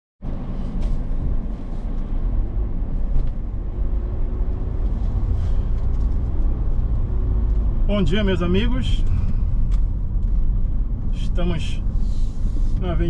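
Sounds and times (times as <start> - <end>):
vehicle engine and road rumble: 0.2 - 13.0.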